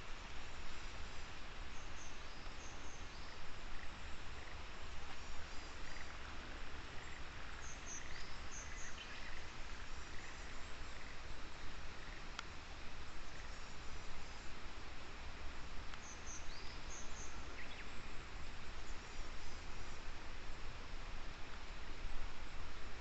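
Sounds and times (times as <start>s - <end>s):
steady noisy hiss: 0.0s - 23.0s
small birds chirping: 0.2s - 14.5s, 15.9s - 20.0s.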